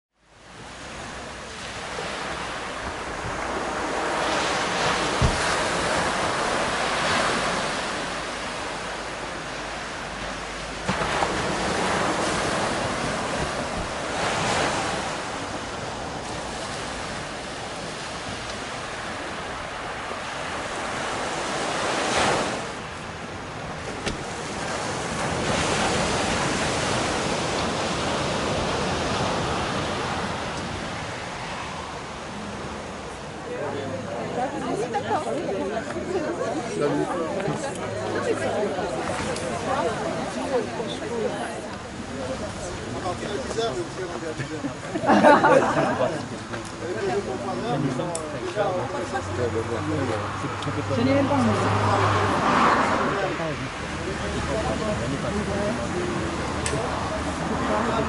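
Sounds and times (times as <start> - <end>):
waves washing onto beach: 0.2 - 58.0.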